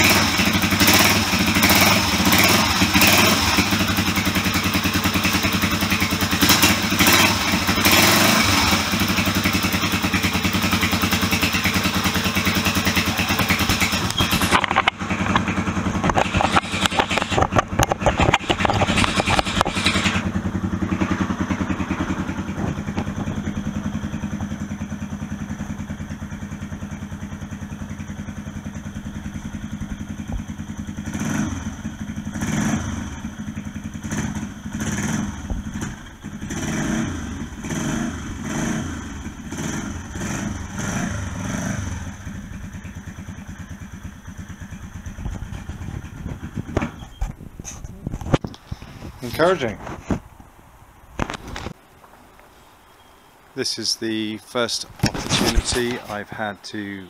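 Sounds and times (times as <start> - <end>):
motorcycle engine idling and revving: 0.0 - 51.8, 53.8 - 57.0.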